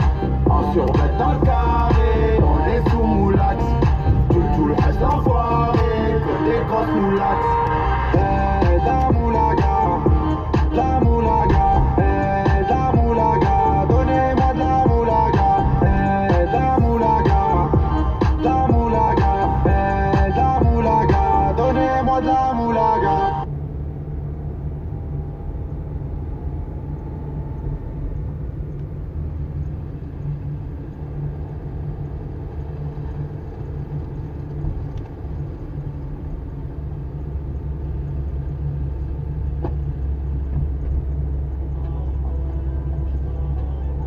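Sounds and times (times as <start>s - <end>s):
car driving on road: 0.0s - 44.0s.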